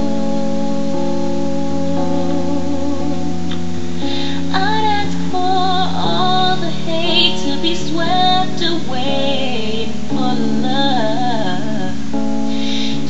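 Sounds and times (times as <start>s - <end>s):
held instrumental chords: 0.0s - 13.0s
woman singing: 0.0s - 13.0s.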